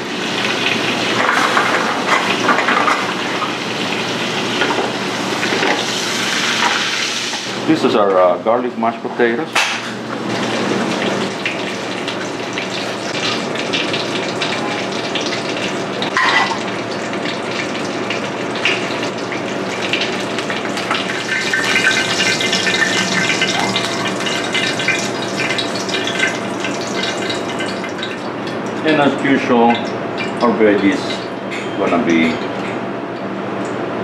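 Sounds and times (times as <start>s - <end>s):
pans sizzling: 0.0s - 7.8s, 9.5s - 31.3s.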